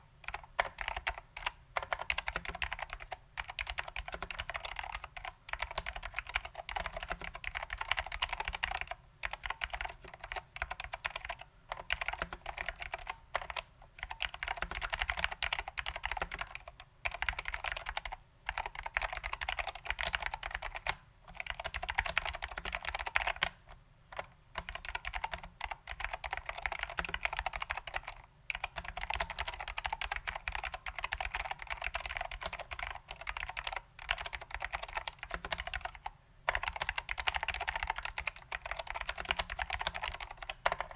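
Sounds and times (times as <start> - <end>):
mechanical keyboard typing: 0.2 - 40.9.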